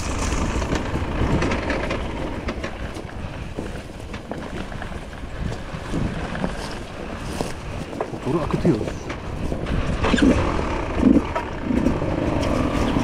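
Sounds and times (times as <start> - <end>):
clicks and rattles from bike: 0.0 - 13.0
motorcycle engine rumble: 0.0 - 13.0.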